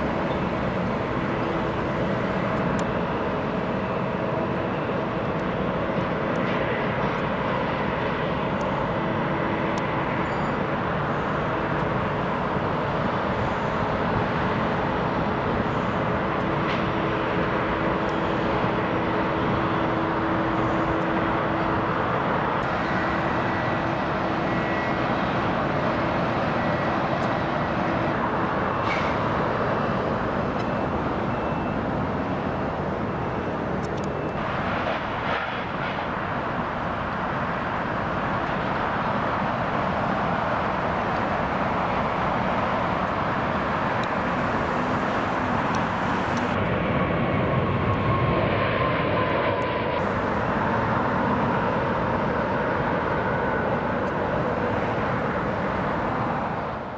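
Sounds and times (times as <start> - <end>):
faint jet engine whine: 0.0 - 56.9
jet engines rushing: 0.0 - 56.9.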